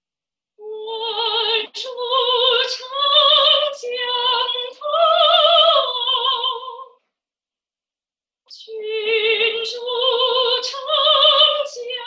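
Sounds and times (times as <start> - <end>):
soprano singing unaccompanied: 0.6 - 7.0, 8.5 - 12.0.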